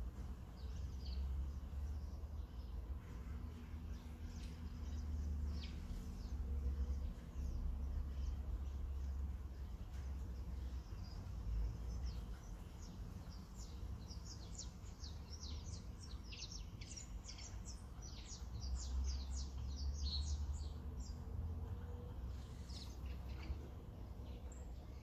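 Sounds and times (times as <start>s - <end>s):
low background rumble: 0.0s - 25.0s
small birds chirping: 0.0s - 25.0s.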